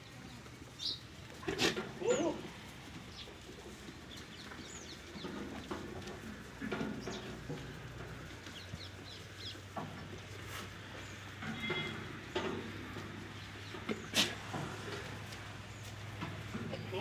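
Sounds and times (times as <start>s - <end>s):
small birds chirping: 0.0s - 1.1s, 3.0s - 17.0s.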